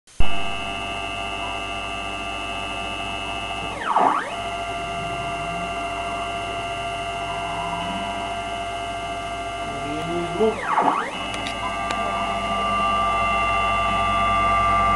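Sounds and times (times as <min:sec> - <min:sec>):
stepper motor whining: 0:00.2 - 0:14.9.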